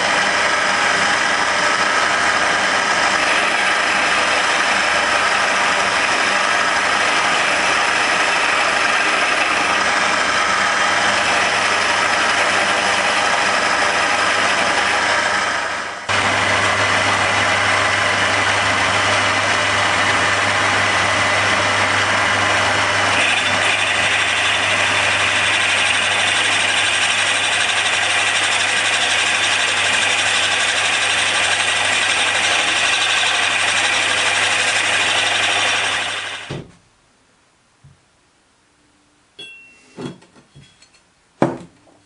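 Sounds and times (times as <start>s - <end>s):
electric motor hum: 0.0s - 36.5s
machine tool cutting: 0.0s - 36.5s.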